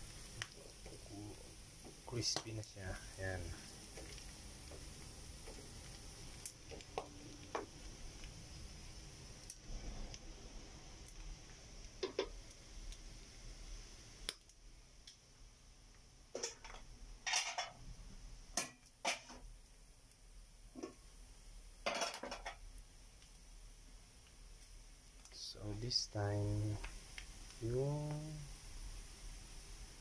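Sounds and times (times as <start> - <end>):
sharp crackles and knocks: 0.0 - 13.1, 15.9 - 21.2, 21.8 - 30.0
pork deep-frying in hot oil: 0.0 - 30.0.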